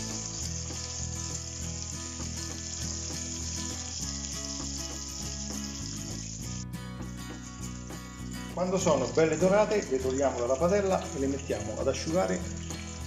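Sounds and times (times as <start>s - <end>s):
meat sizzling in frying pan: 0.0s - 13.0s
music with held low notes: 0.0s - 13.0s.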